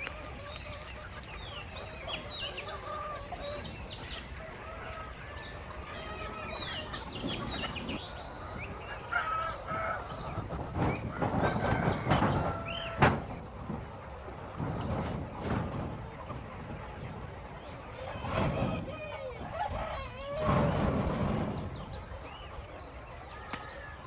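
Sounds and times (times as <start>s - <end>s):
chickens clucking and calling: 0.0s - 24.0s.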